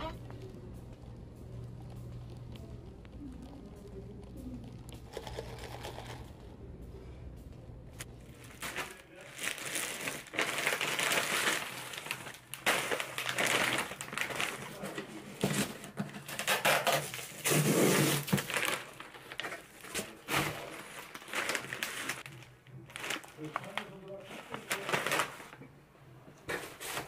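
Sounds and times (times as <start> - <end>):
crinkling and rustling: 0.0 - 27.0.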